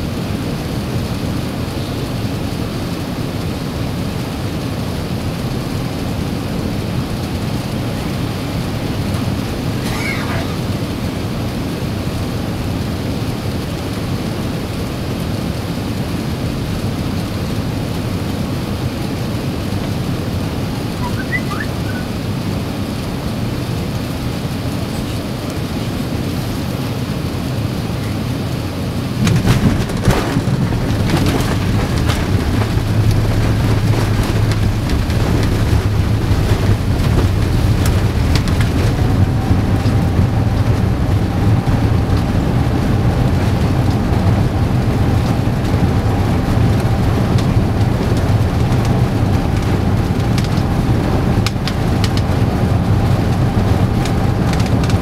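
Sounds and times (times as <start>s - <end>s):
airplane cabin air and engine rush: 0.0s - 55.0s
low rumble of runway rollout: 0.0s - 55.0s.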